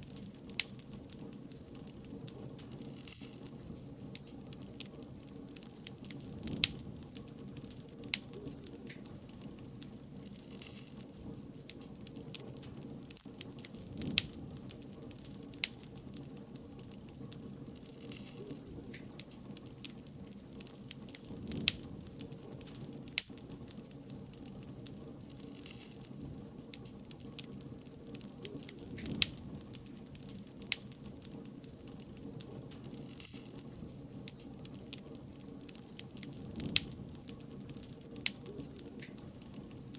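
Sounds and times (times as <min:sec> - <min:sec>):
bonfire crackling: 0:00.0 - 0:39.9
sharp pops of burning wood: 0:00.0 - 0:39.9.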